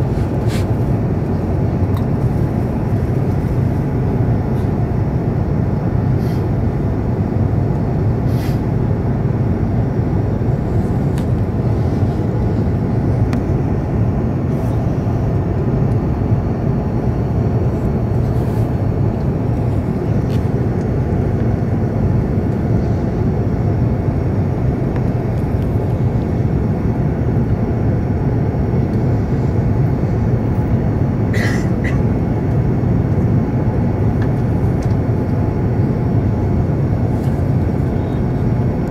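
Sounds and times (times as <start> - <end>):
aircraft cabin rumble: 0.0 - 38.9.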